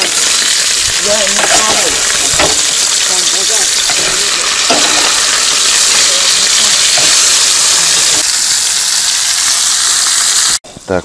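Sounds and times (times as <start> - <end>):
fish frying in hot oil: 0.0 - 10.6.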